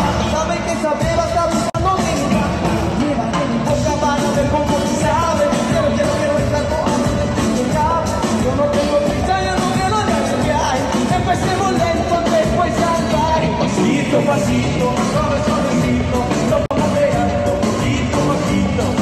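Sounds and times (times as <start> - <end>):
live pop band with singing: 0.0 - 19.0.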